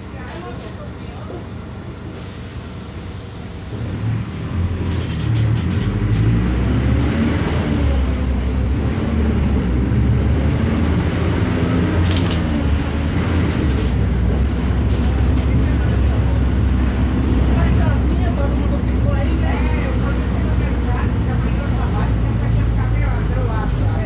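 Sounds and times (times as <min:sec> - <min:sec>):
bus diesel engine drone: 0:00.0 - 0:24.0.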